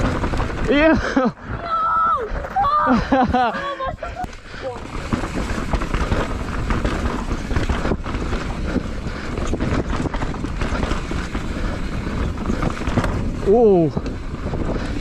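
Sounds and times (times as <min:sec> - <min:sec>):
bike rattling over bumps: 0:00.0 - 0:15.0
tyres rumbling on dirt: 0:00.0 - 0:15.0
wind buffeting microphone: 0:00.0 - 0:15.0.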